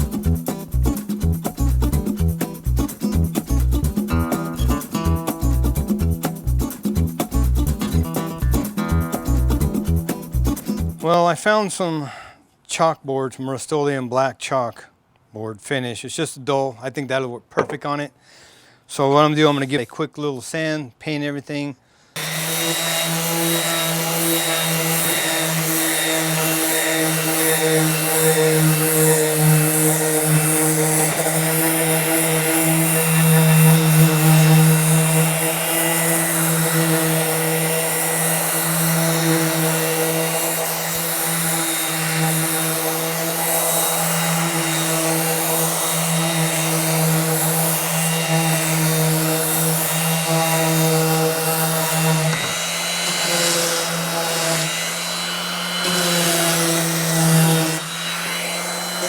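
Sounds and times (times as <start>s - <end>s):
electric sander running: 0.0s - 11.1s, 22.2s - 59.0s.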